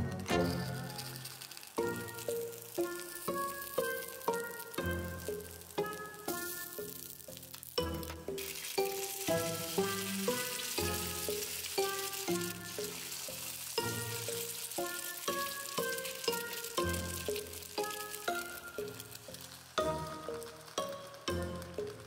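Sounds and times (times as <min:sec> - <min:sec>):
background music: 0:00.0 - 0:22.0
eggs sizzling in a pan: 0:00.0 - 0:22.0.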